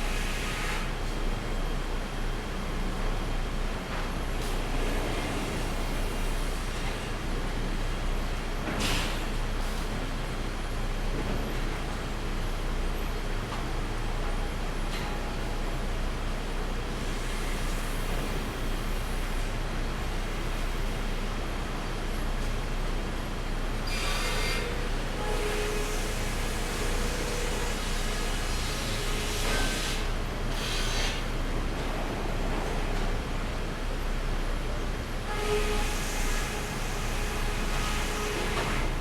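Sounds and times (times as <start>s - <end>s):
sawmill machinery running: 0.0s - 39.0s.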